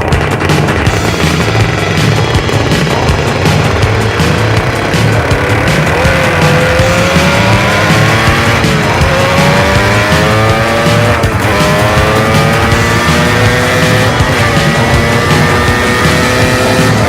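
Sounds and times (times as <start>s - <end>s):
music with a steady beat: 0.0s - 17.0s
racing engine accelerating: 0.0s - 17.0s.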